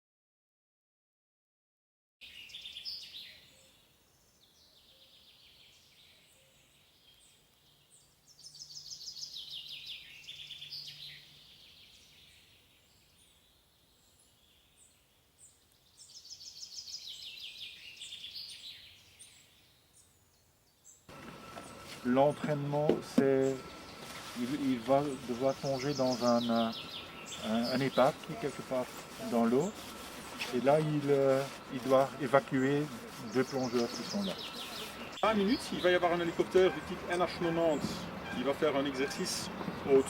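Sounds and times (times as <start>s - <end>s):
faint background noise: 2.2s - 40.0s
songbird singing: 2.2s - 40.0s.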